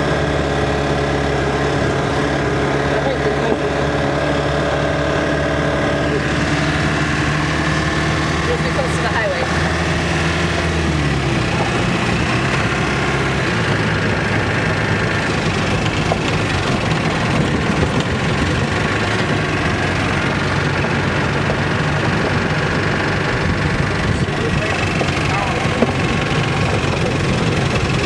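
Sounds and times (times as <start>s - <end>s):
road noise: 0.0s - 28.0s
vehicle engine running: 0.0s - 28.0s.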